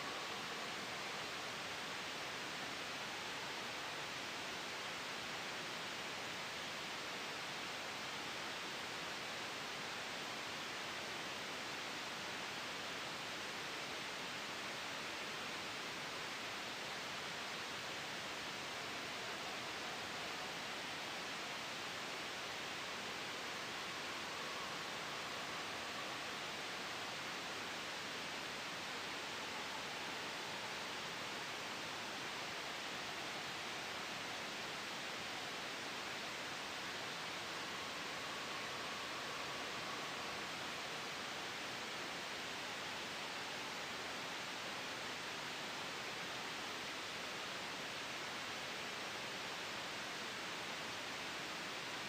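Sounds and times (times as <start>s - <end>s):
gentle wind: 0.0s - 52.0s
white noise hiss: 0.0s - 52.0s.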